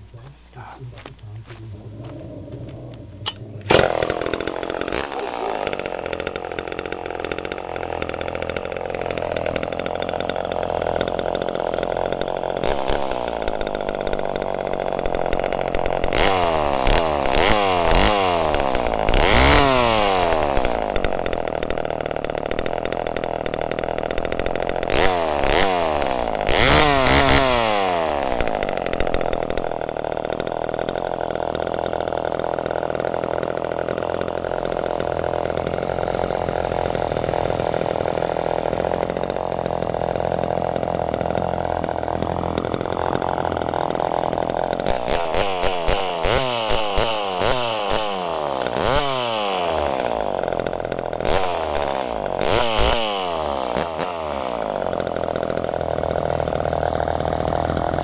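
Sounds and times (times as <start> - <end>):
chainsaw engine idling and revving: 0.2 - 58.0.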